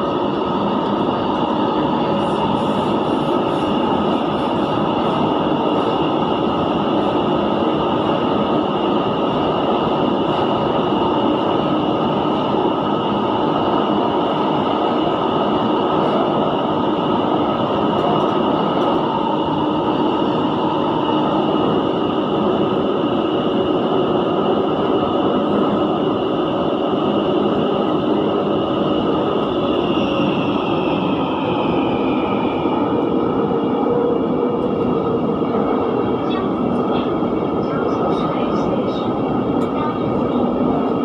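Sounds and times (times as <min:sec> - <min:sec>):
high whine of train: 0:00.0 - 0:41.0
train rumble and hiss: 0:00.0 - 0:41.0.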